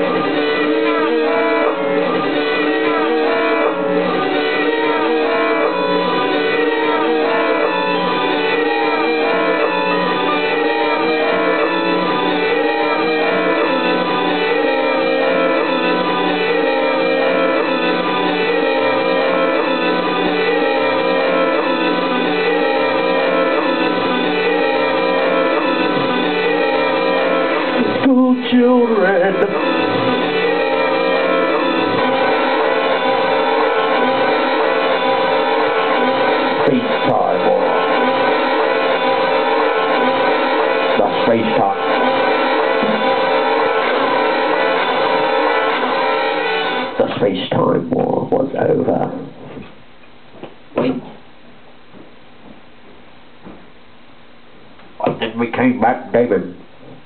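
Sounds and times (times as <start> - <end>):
electric guitar playing: 0.0 - 47.0.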